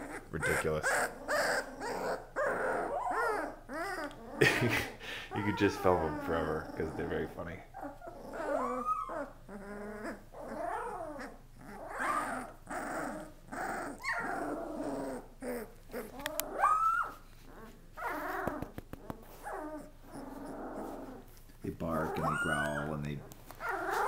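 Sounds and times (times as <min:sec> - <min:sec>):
puppy yelping: 0:00.0 - 0:04.5, 0:05.3 - 0:24.0
puppies growling whining and yipping: 0:00.0 - 0:24.0.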